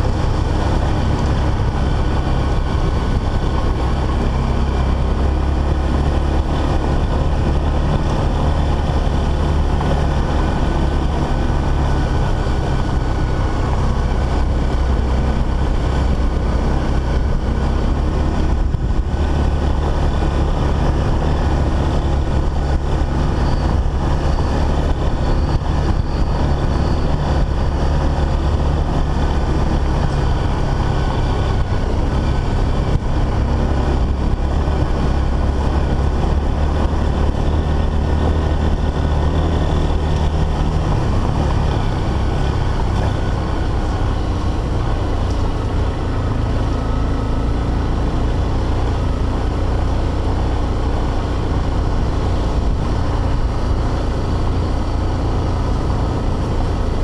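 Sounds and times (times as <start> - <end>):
heavy low rumble: 0.0 - 57.0
motorcycle engine running: 0.0 - 57.0.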